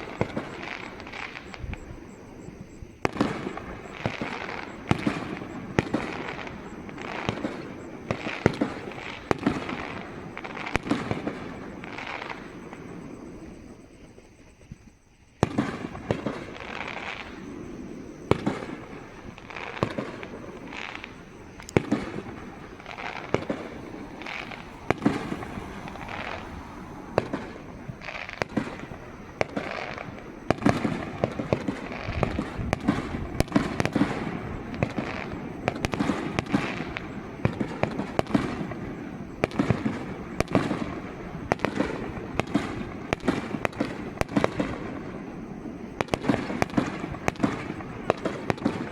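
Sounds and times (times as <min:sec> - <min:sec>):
fireworks booming: 0:00.0 - 0:48.9.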